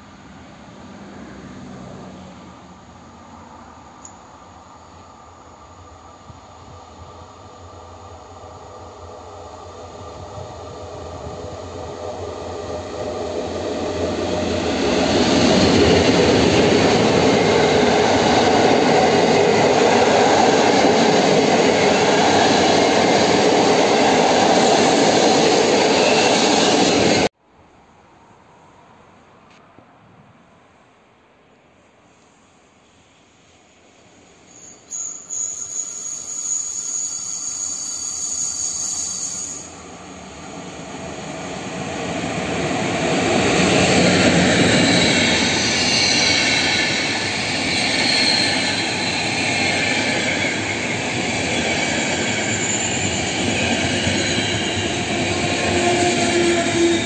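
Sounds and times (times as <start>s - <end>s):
train rumbling on rails: 0.0s - 27.4s, 35.0s - 57.0s.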